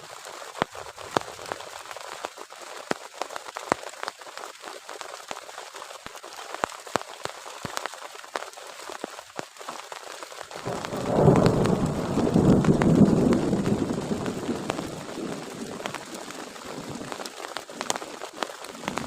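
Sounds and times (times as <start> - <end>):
heavy rain falling: 0.0 - 19.0
raindrops ticking against surface: 0.0 - 19.0.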